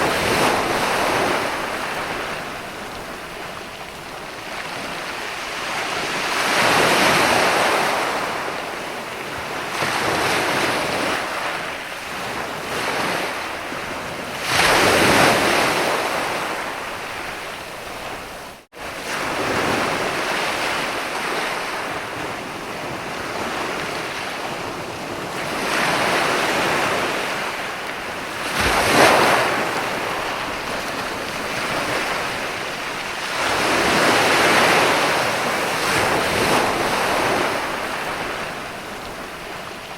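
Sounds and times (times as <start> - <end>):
sea waves breaking on a beach: 0.0 - 39.9.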